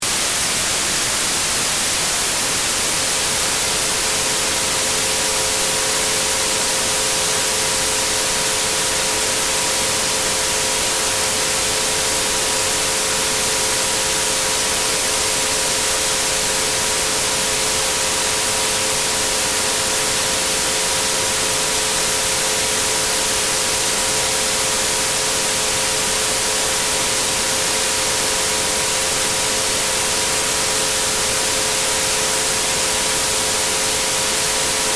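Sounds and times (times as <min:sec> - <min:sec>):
white noise: 0:00.0 - 0:34.9.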